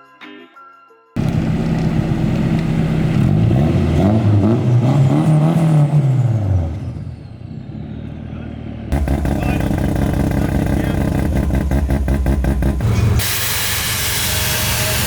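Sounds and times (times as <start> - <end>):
car engine revving: 1.2 - 15.0.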